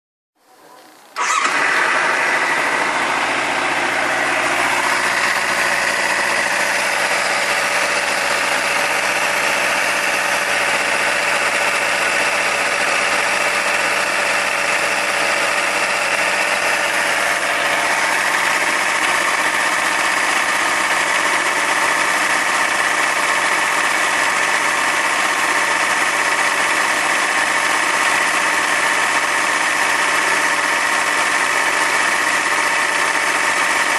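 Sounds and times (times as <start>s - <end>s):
motorcycle engine running: 1.2s - 33.9s.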